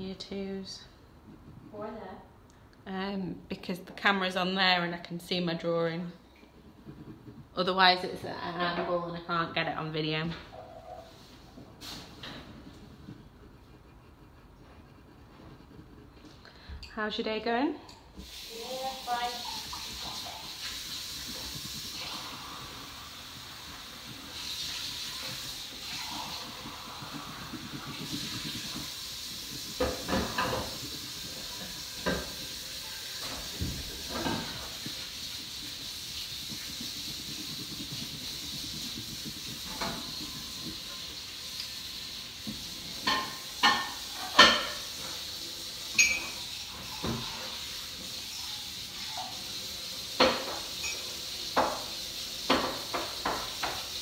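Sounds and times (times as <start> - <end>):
coloured pencil scratching on paper: 0.0 - 2.3, 3.1 - 17.3, 18.2 - 54.0.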